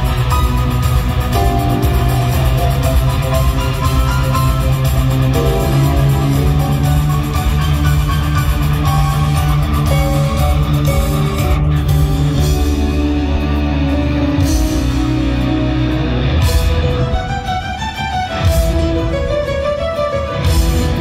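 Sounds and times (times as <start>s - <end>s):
steady bass: 0.0s - 19.6s, 20.4s - 21.0s
guitar music: 0.0s - 21.0s.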